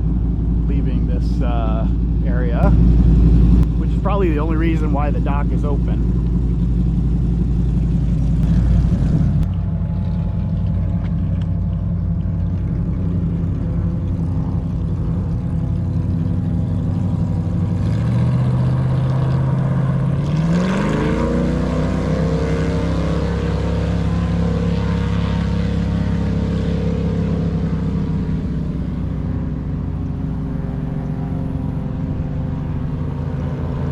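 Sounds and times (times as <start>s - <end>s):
airboat engine and propeller: 0.0s - 33.9s.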